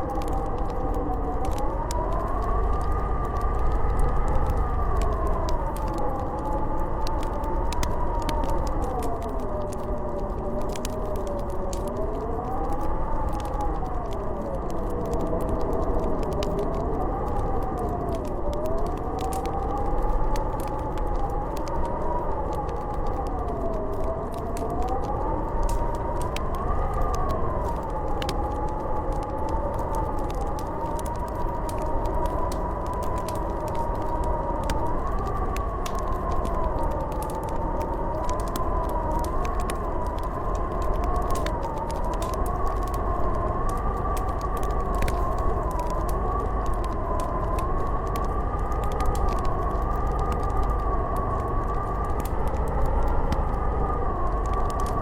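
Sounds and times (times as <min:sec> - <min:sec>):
howling blizzard wind: 0:00.0 - 0:55.0
wood fire crackling: 0:00.0 - 0:55.0.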